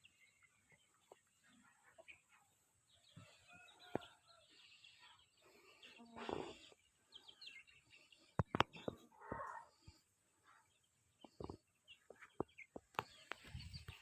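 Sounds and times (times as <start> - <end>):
young chickens cheeping: 0.0 - 14.0.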